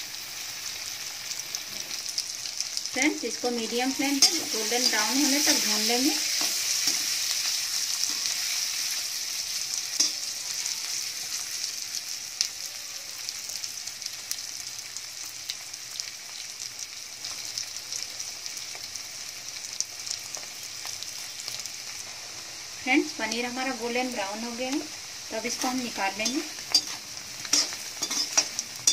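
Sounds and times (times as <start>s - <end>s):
food sizzling in hot oil: 0.0s - 28.9s.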